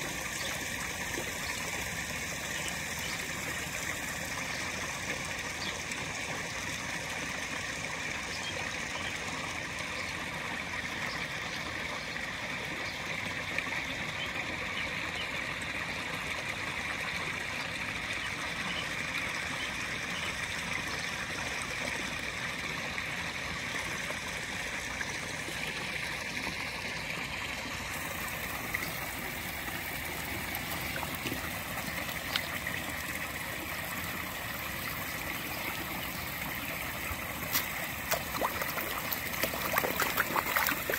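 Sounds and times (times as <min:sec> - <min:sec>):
running water rushing: 0:00.0 - 0:11.9, 0:18.9 - 0:40.9.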